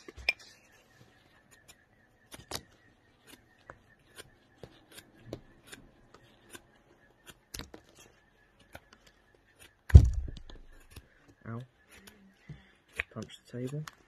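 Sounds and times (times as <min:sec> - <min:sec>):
knife scraping bark: 0:00.0 - 0:14.0.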